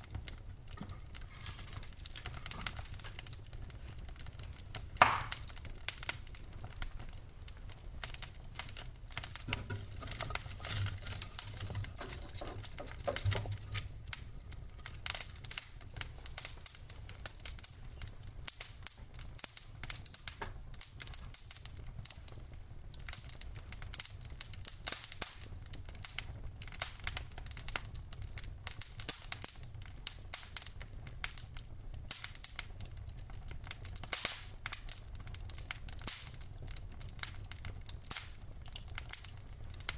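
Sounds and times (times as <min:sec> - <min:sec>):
low rumble of flames: 0:00.0 - 0:39.9
sharp pops of fire: 0:00.0 - 0:39.9
wood fire crackling: 0:00.0 - 0:39.9.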